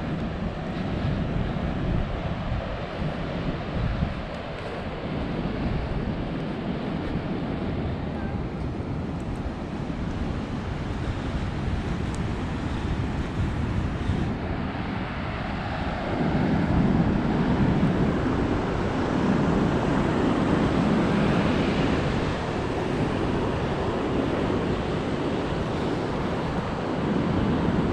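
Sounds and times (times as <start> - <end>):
ocean surf washing: 0.0 - 27.9
wind buffeting microphone: 0.0 - 27.9.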